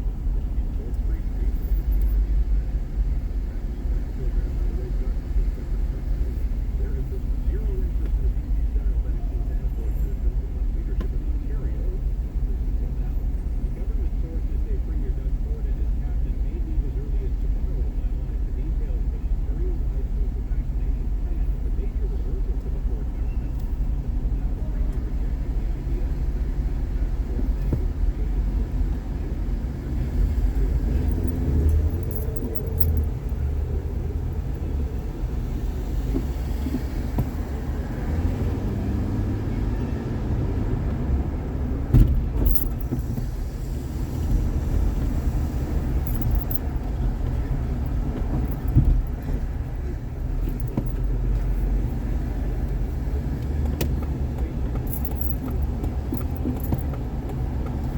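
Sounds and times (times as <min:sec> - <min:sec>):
road and engine rumble in car: 0:00.0 - 0:57.9.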